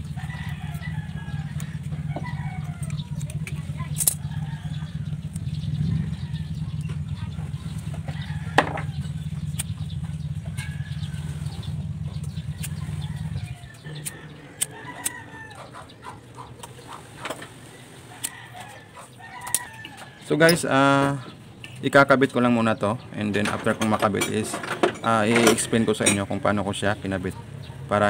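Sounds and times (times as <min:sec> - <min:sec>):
chickens clucking and crowing: 0:00.0 - 0:28.0.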